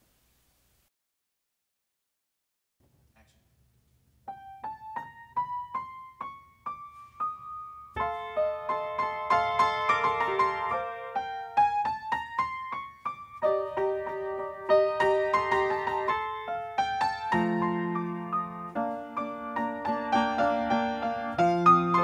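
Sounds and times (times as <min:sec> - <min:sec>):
solo piano piece: 0:04.2 - 0:22.0.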